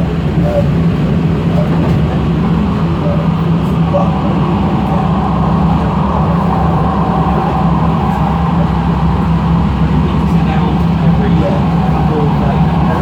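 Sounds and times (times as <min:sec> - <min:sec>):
tram running: 0:00.0 - 0:13.0.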